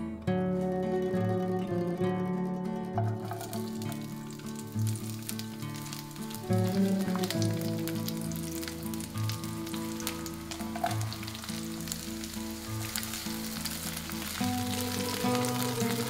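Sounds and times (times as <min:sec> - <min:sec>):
vegetables sizzling in hot oil: 0:03.0 - 0:16.0.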